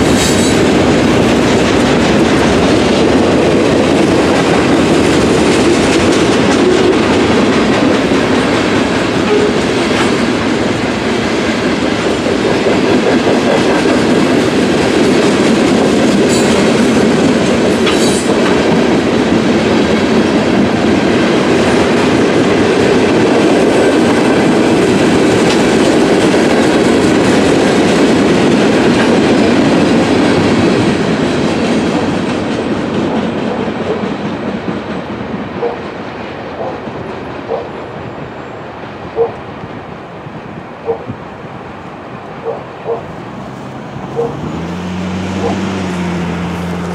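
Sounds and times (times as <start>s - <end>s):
wheels clacking over rail joints: 0.0s - 39.9s, 40.8s - 46.9s
freight train rolling past: 0.0s - 46.9s.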